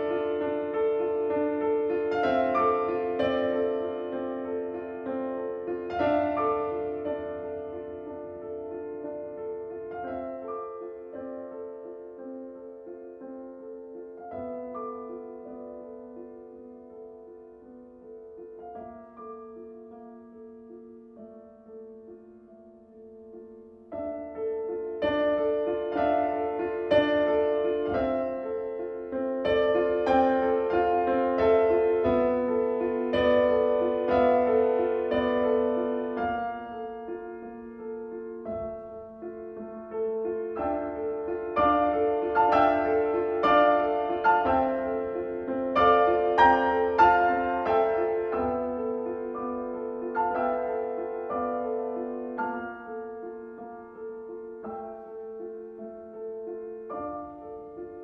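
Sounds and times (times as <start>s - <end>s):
slow piano music: 0.0s - 58.0s.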